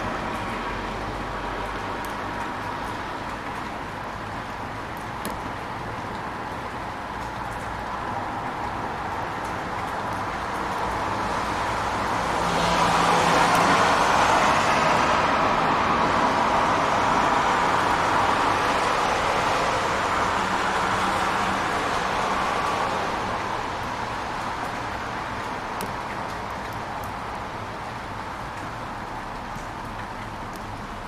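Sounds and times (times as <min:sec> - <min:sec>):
rain on street: 0:00.0 - 0:31.0
vehicle passing on wet road: 0:00.0 - 0:31.0.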